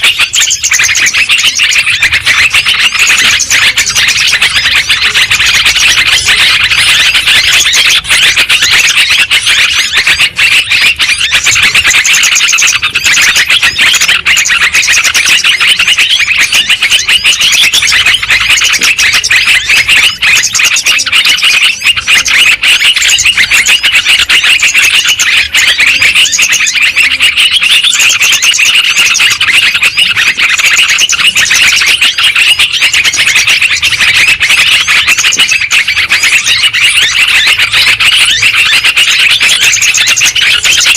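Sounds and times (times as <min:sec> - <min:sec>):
birds chattering and singing: 0:00.0 - 0:40.9.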